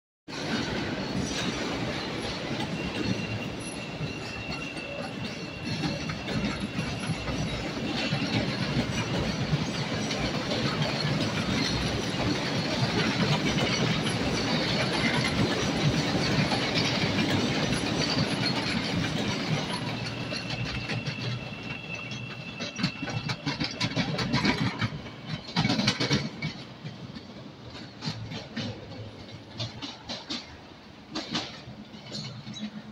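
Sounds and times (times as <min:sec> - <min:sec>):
train wheels rumbling on rails: 0:00.3 - 0:32.9
wheels clacking over rail joints: 0:00.4 - 0:32.9.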